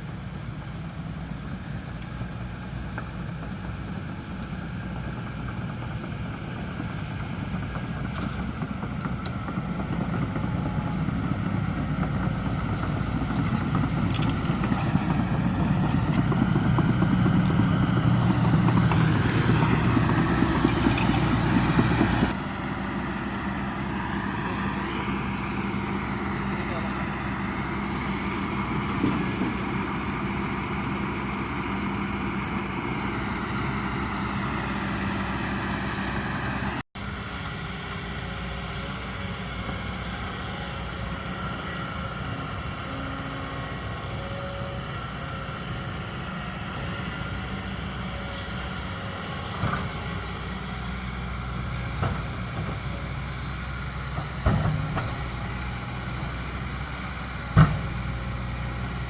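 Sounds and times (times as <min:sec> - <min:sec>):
excavator diesel engine running: 0:00.1 - 0:59.0.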